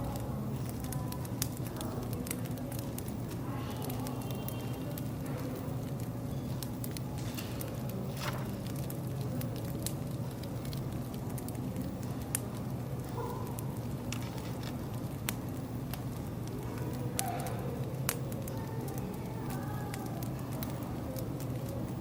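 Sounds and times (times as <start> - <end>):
low steady hum: 0.0 - 22.0
wood fire crackling: 0.0 - 22.0.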